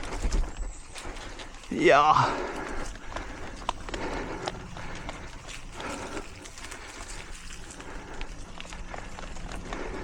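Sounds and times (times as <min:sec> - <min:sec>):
bike clicks and rattles: 0:00.0 - 0:10.0.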